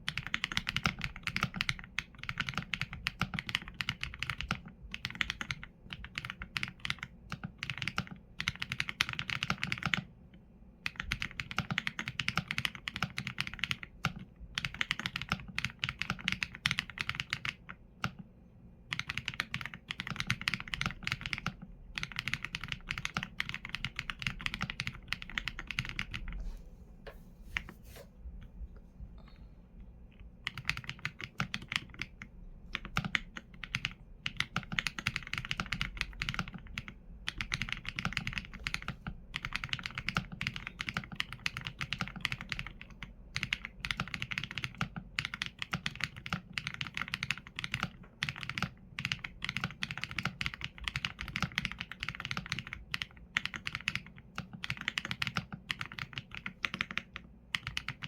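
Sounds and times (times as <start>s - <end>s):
typing on mechanical keyboard: 0.0s - 10.1s, 10.8s - 18.3s, 18.9s - 26.4s, 30.4s - 58.0s.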